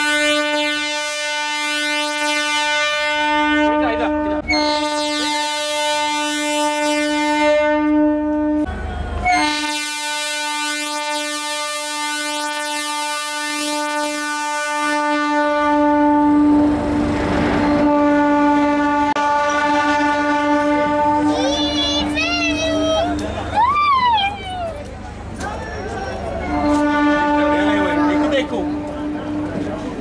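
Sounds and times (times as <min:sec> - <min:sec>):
train horn blast: 0:00.0 - 0:23.2, 0:26.4 - 0:29.8
train running noise: 0:00.0 - 0:30.0.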